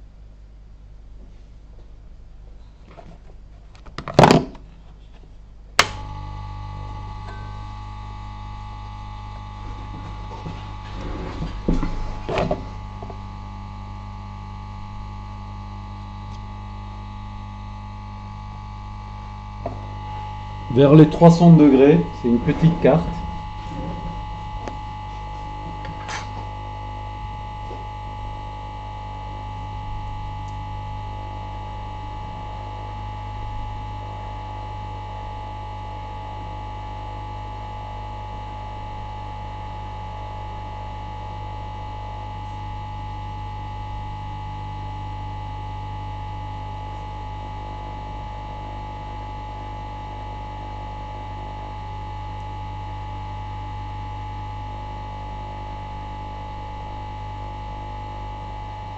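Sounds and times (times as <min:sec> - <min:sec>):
hot air station blowing with whine: 0:05.8 - 0:58.9.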